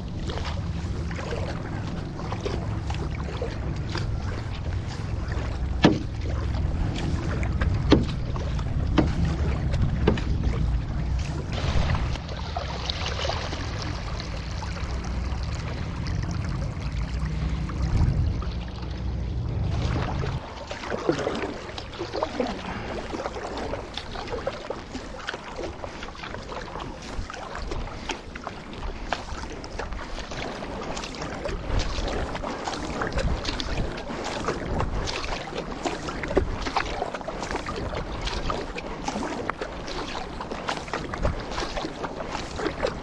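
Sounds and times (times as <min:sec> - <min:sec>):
paddle strokes splashing: 0:00.0 - 0:43.0
water rushing past board: 0:00.0 - 0:43.0.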